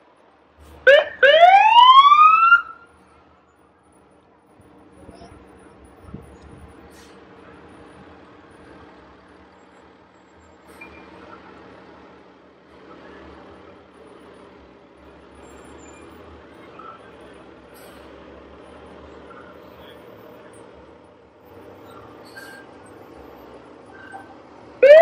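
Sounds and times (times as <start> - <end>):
fire engine rumbling: 0.0 - 25.0.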